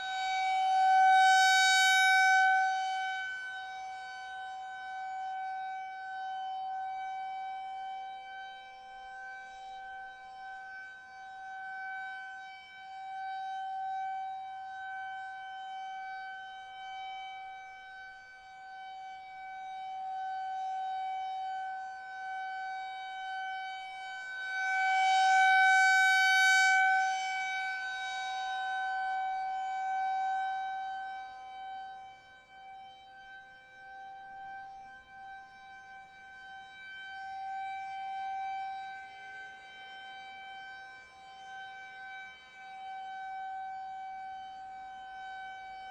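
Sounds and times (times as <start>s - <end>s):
outdoor warning siren: 0.0s - 45.9s.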